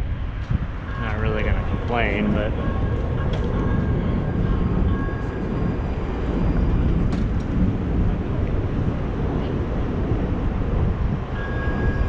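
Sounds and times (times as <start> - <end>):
light rail train rumbling: 0.0 - 12.0.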